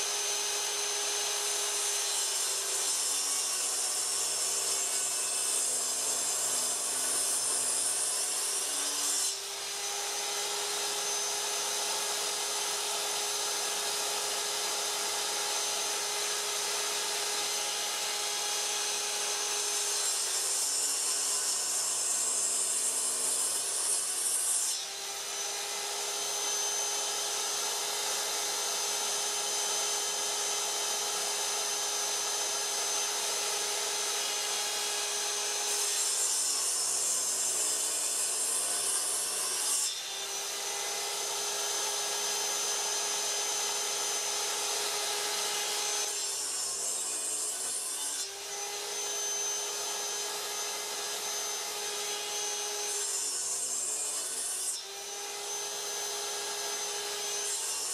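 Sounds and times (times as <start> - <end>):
miter saw cutting wood: 0.0 - 57.9.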